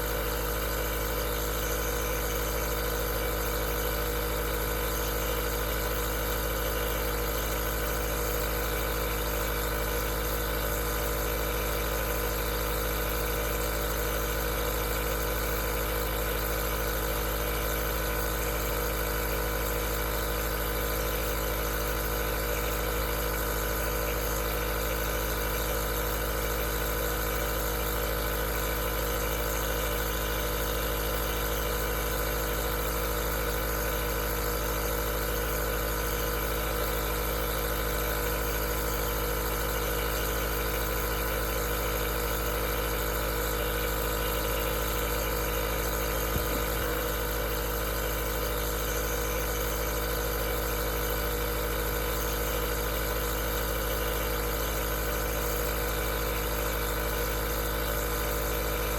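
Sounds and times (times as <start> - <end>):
nebulizer humming: 0.0 - 58.9.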